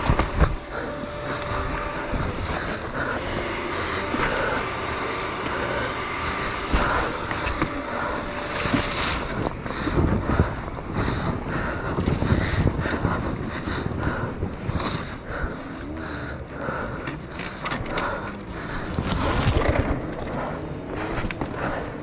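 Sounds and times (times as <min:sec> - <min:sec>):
off-road motorcycle running: 0:00.0 - 0:22.0
wind and rubbing noise: 0:00.0 - 0:22.0.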